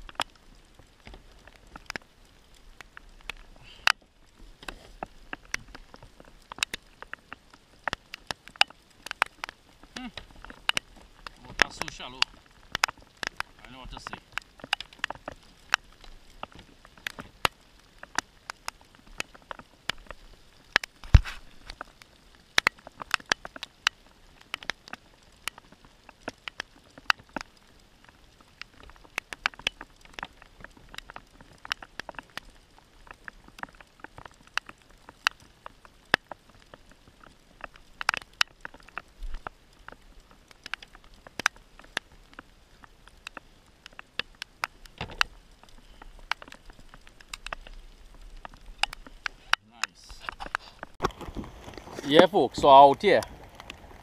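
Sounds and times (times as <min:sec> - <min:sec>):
rain drops ticking on plastic kayak: 0:00.0 - 0:54.0.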